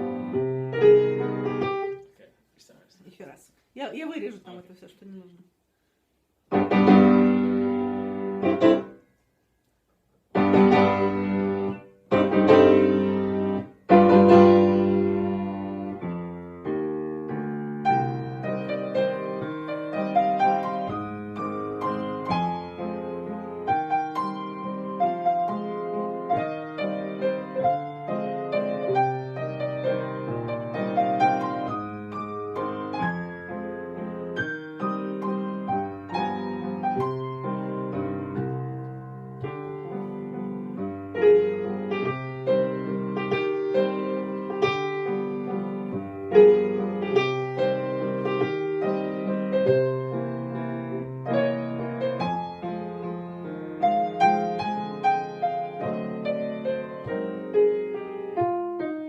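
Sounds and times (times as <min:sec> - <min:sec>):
solo piano waltz: 0:00.0 - 0:02.1, 0:06.5 - 0:09.0, 0:10.3 - 0:59.0.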